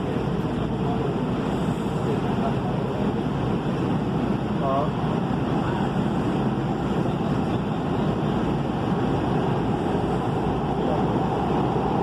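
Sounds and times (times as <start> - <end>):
wheels rumbling on track: 0.0 - 12.0.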